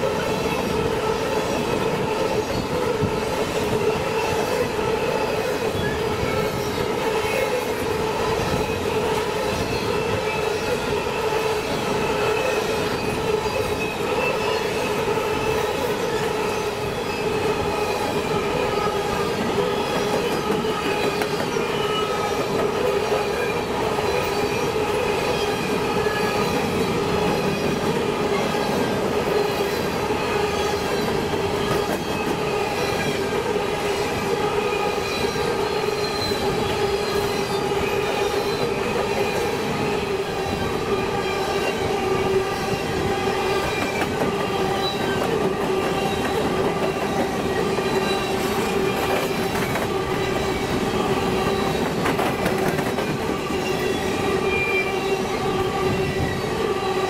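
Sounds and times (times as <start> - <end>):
train wheel squeal: 0.0 - 57.0
train wheels rumbling on rails: 0.0 - 57.0.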